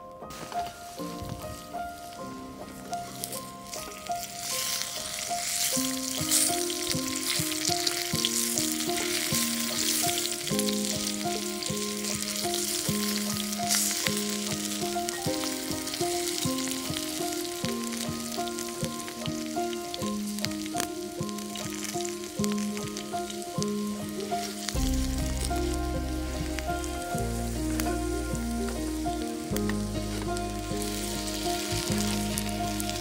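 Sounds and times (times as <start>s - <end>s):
background music: 0.0s - 33.0s
peels sizzling in a pan: 0.2s - 33.0s.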